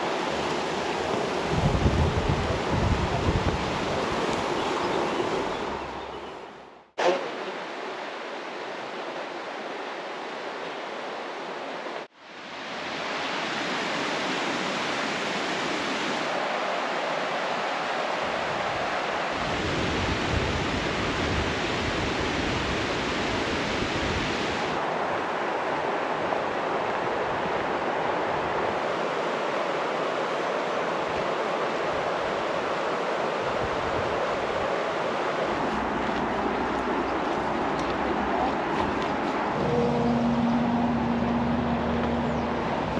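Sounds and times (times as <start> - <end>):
steady rushing outdoor noise: 0.0 - 42.9.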